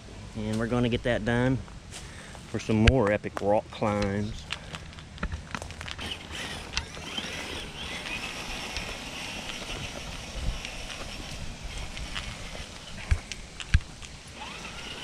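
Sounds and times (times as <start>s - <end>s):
low rustling and handling rumble: 0.0s - 15.0s.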